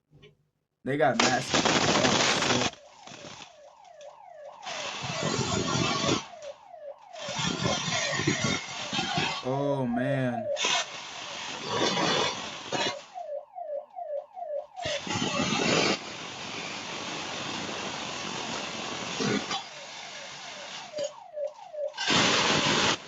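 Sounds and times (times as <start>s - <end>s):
alarm siren whooping: 2.4s - 16.3s, 18.4s - 23.0s.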